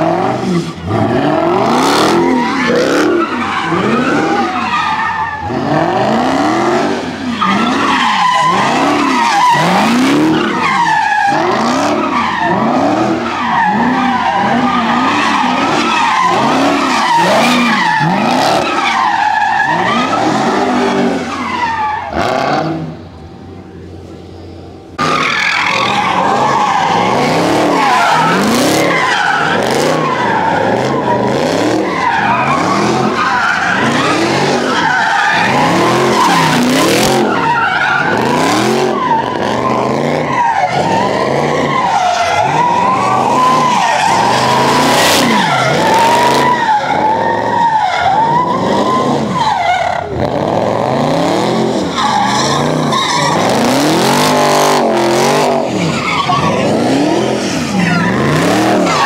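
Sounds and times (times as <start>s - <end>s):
car engine revving: 0.0s - 59.0s
tyres squealing: 0.7s - 22.7s, 24.4s - 59.0s.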